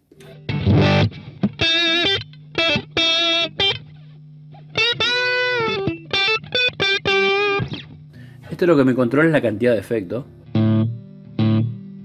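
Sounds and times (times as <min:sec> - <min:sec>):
electric guitar notes: 0:00.0 - 0:09.1, 0:10.1 - 0:12.0.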